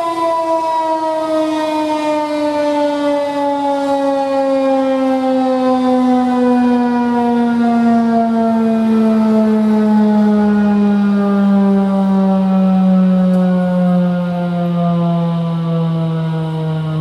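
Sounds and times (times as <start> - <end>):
civil defense siren winding down: 0.0 - 17.0.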